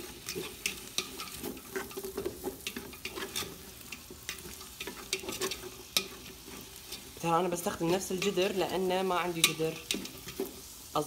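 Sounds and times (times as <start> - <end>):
wooden spoon scraping a pot: 0.0 - 10.9
onions sizzling in hot oil: 0.0 - 11.0.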